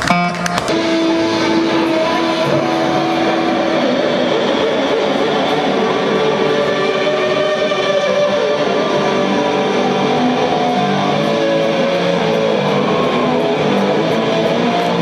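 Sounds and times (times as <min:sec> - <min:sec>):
distorted electric guitars: 0:00.0 - 0:15.0
drums: 0:00.0 - 0:15.0.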